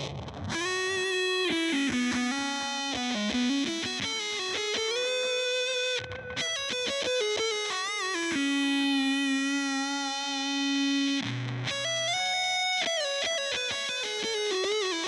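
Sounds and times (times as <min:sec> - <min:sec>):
fuzzy electric guitar lead: 0:00.0 - 0:15.0.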